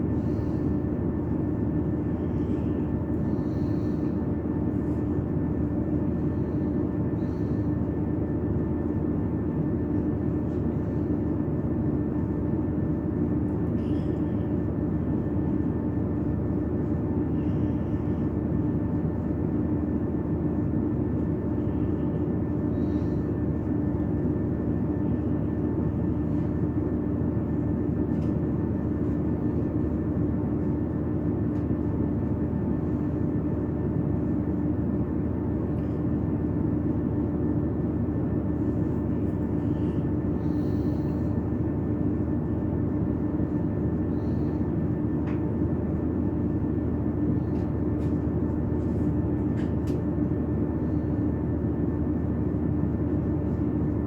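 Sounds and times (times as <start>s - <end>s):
train carriage hum: 0.0s - 54.0s.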